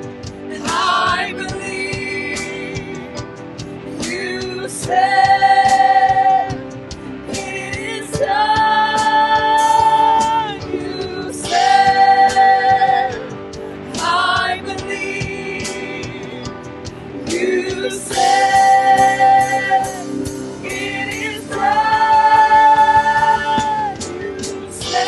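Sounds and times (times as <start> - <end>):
gospel singing: 0.0 - 25.0.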